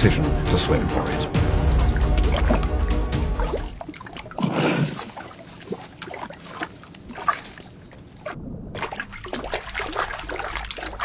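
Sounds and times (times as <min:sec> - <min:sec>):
river water splashing: 0:01.0 - 0:11.0.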